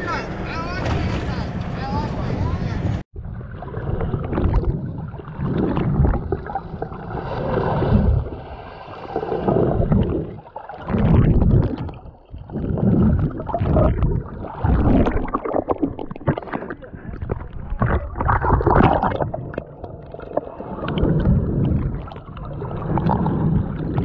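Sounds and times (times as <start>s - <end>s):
muffled underwater sloshing: 0.0s - 24.0s.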